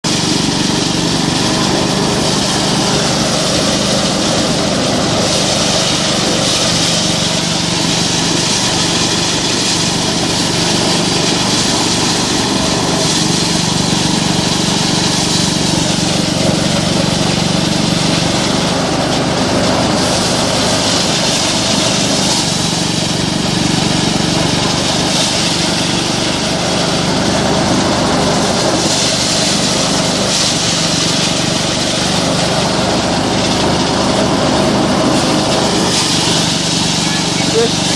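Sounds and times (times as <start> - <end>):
small engine humming: 0.0 - 37.9
threshing machine rattling: 0.0 - 37.9.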